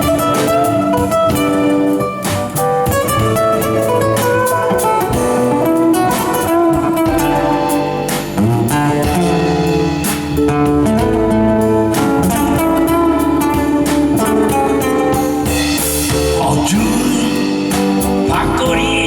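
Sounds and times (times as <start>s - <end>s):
electric guitar leading: 0.0s - 19.0s
instrumental blues band: 0.0s - 19.0s.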